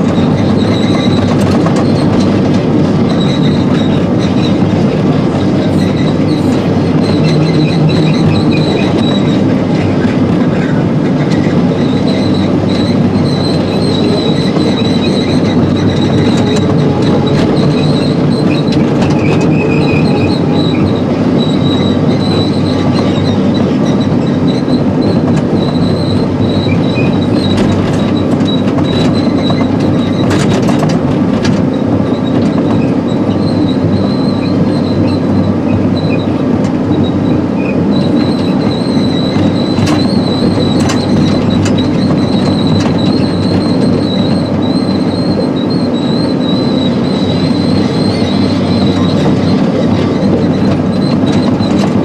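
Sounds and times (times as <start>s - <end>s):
diesel engine running: 0.0s - 52.0s
steel tracks squealing and clanking: 0.0s - 52.0s.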